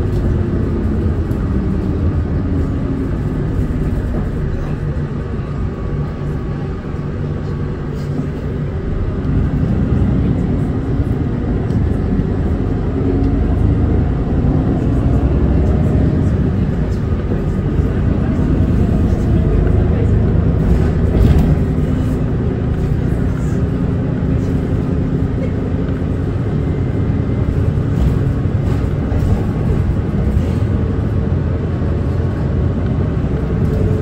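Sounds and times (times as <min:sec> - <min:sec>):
bus interior rumble: 0:00.0 - 0:34.0.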